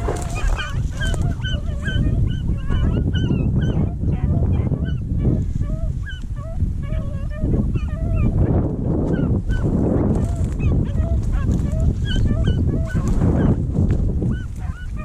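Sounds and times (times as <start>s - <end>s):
beagles baying: 0.0s - 13.6s, 14.3s - 15.0s.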